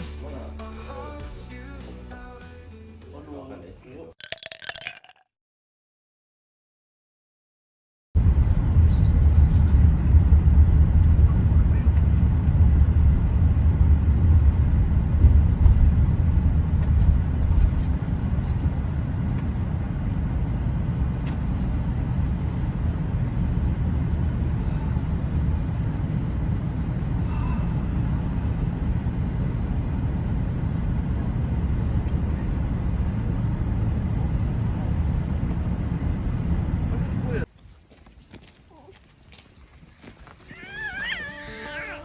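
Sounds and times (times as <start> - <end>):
moving vehicle rumble: 8.2 - 42.0.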